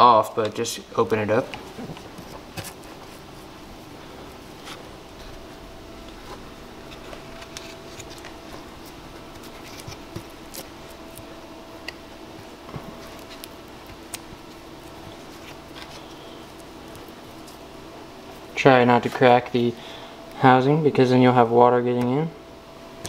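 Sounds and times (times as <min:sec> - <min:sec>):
steady faint hum: 0:00.0 - 0:23.0.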